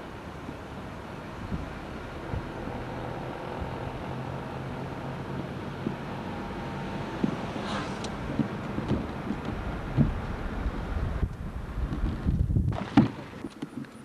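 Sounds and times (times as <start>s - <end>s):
diesel locomotive engine running: 0.0s - 13.4s
wind buffeting microphone: 0.0s - 13.6s.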